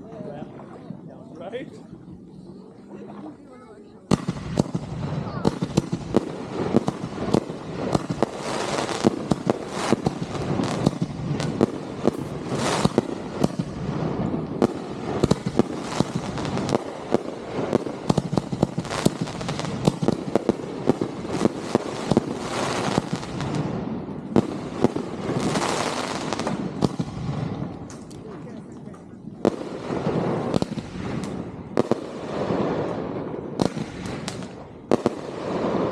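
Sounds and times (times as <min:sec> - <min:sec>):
fireworks crackling: 0:03.7 - 0:35.9
fireworks bangs: 0:04.1 - 0:35.9.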